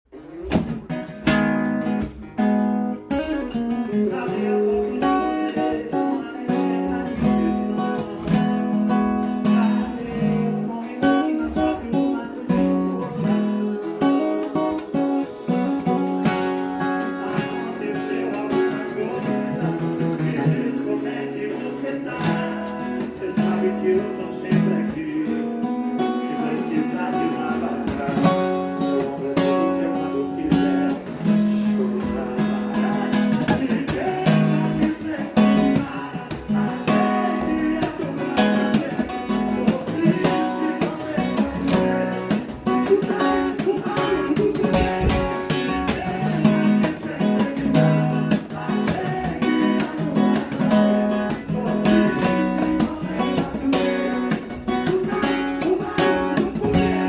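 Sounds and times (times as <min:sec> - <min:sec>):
acoustic guitar strumming and picking: 0:00.1 - 0:57.0.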